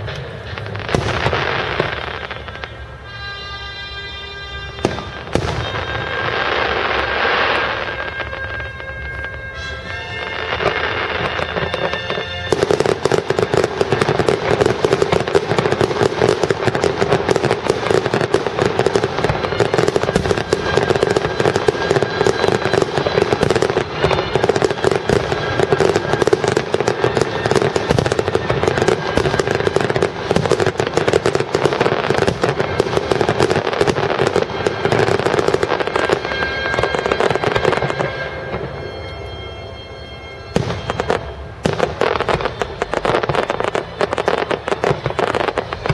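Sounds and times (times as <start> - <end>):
fireworks bangs and crackle: 0.0 - 45.9.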